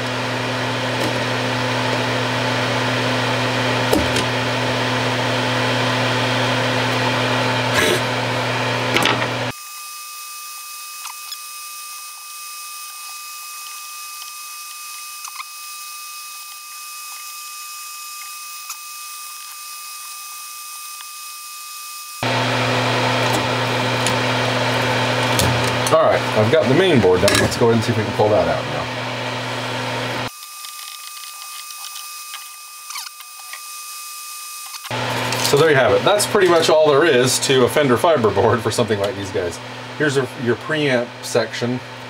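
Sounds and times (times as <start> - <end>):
extractor fan humming: 0.0 - 21.0, 22.0 - 42.0.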